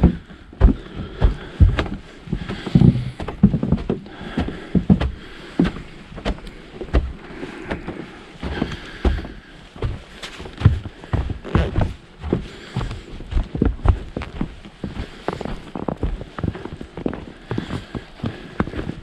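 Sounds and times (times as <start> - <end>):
footsteps crunching through snow: 0.0 - 19.0.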